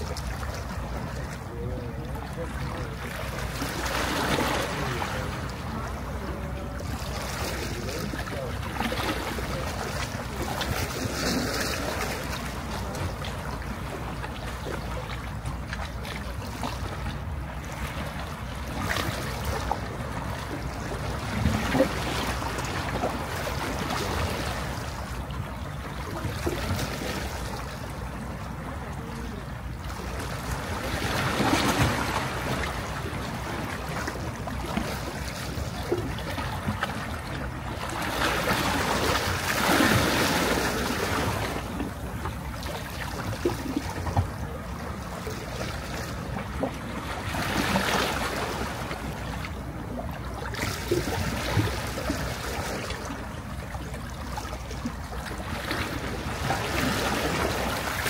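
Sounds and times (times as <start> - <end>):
sea waves on beach: 0.0 - 58.0.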